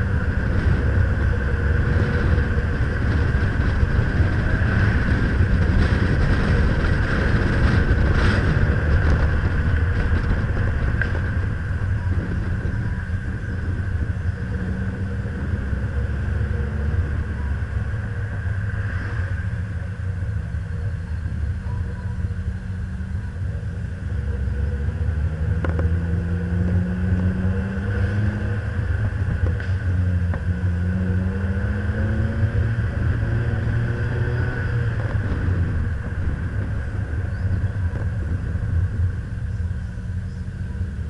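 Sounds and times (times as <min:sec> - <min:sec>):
car engine accelerating: 0:00.0 - 0:41.0
wind and tyre noise rumble: 0:00.0 - 0:41.0.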